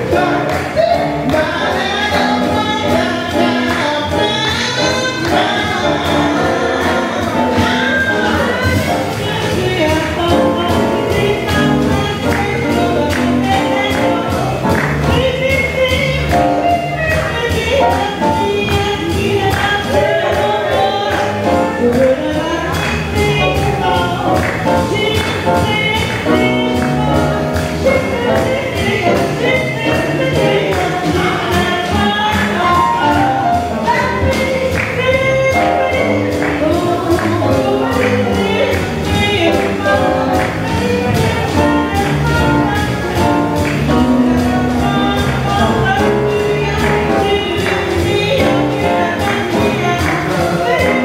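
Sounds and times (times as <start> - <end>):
group of vocalists singing: 0.0 - 15.2, 17.1 - 51.0
jazz band playing: 0.0 - 51.0.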